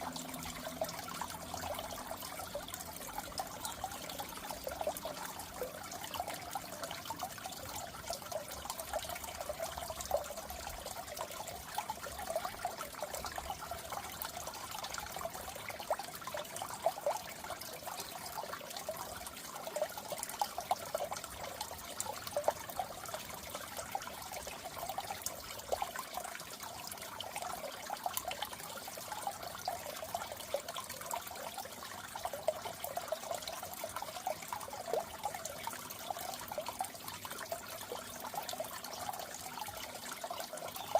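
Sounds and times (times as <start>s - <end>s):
aquarium water trickling and bubbling: 0.0s - 40.9s.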